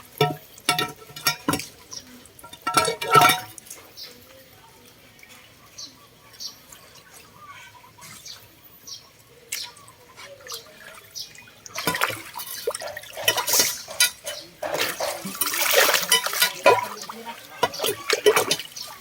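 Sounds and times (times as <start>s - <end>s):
water splashing at a drain: 0.0s - 19.0s.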